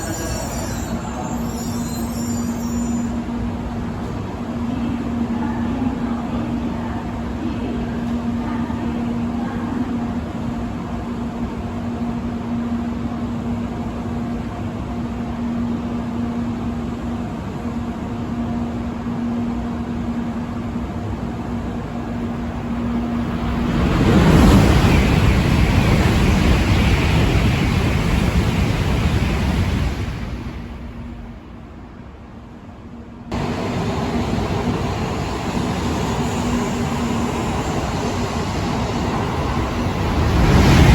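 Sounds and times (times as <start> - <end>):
high-speed train passing: 0.0 - 40.9.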